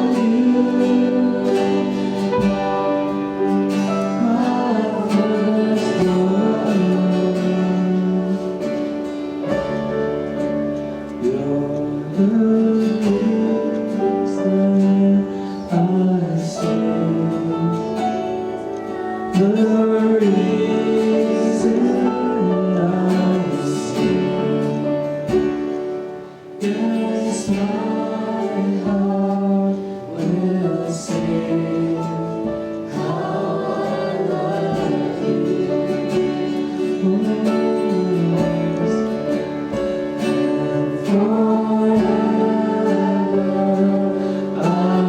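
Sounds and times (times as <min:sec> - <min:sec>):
acoustic guitar: 0:00.0 - 0:45.0
person singing: 0:00.0 - 0:45.0.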